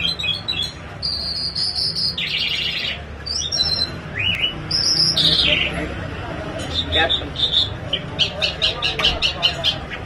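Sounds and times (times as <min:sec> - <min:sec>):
songbird chirping and trilling: 0:00.0 - 0:10.0.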